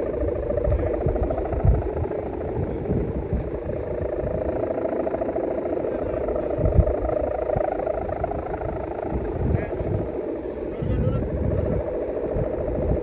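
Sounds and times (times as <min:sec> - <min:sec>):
steady pulsing drone: 0:00.0 - 0:13.0
wind buffeting microphone: 0:00.0 - 0:13.0.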